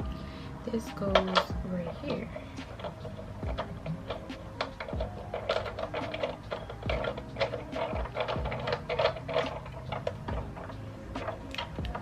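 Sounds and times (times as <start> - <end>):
plastic parts clicking and rattling: 1.1 - 12.0.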